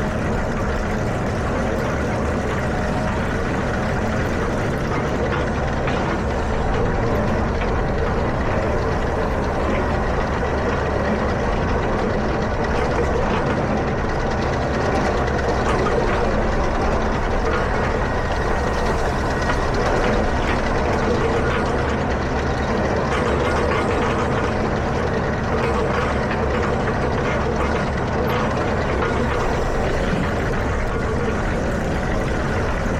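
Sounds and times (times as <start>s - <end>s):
tractor engine running: 0.0s - 32.9s.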